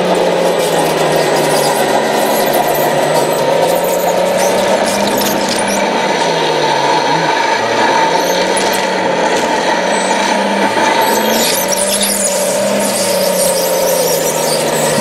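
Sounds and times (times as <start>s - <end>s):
electric motor whine: 0.0s - 15.0s
high scraping squeaks: 0.0s - 15.0s.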